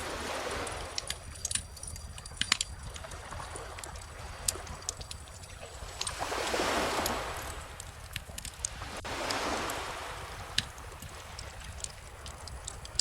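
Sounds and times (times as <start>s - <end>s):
bonfire crackling and popping: 0.0s - 13.0s
ocean waves: 0.0s - 13.0s.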